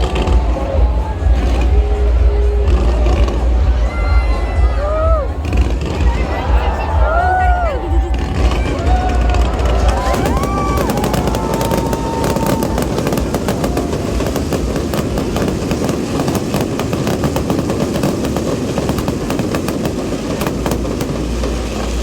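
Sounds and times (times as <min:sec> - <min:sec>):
fireworks bangs and crackling: 0:00.0 - 0:22.0
low rumble: 0:00.0 - 0:22.0.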